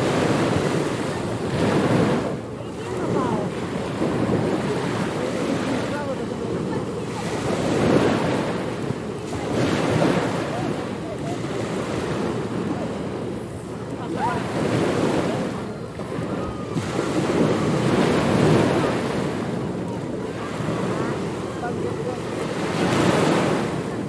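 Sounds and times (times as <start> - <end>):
waves breaking on beach: 0.0 - 24.0.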